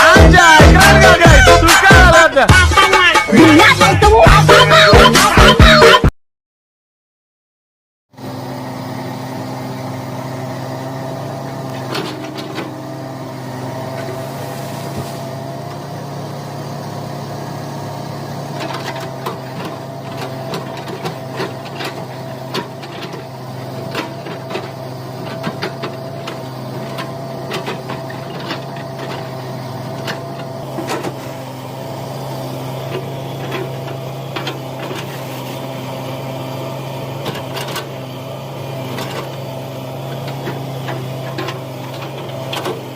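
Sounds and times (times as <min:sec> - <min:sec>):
excavator engine humming: 0:00.0 - 0:06.1, 0:08.1 - 0:42.9.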